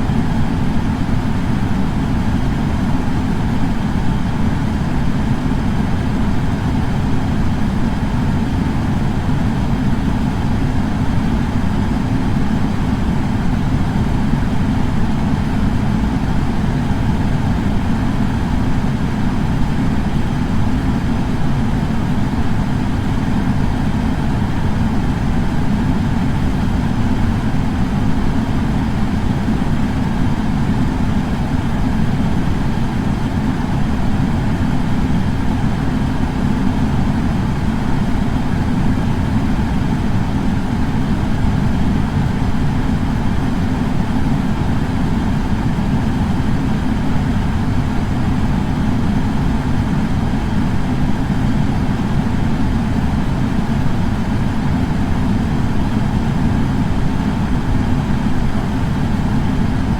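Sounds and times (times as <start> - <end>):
air purifier fan running: 0.0 - 59.9.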